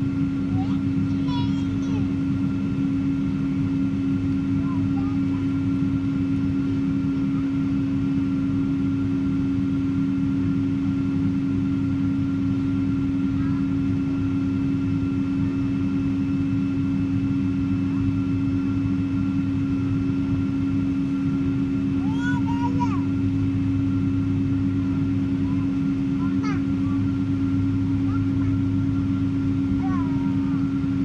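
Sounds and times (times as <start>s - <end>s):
jet engine cabin drone: 0.0s - 31.0s.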